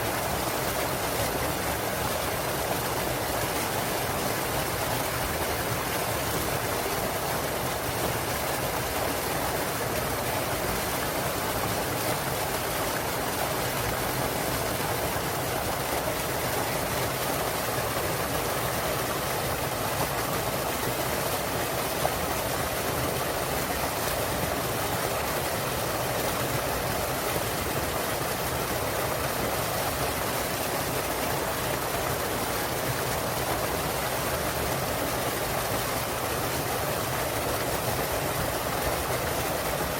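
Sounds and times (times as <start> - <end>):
small waterfall pouring: 0.0 - 39.9.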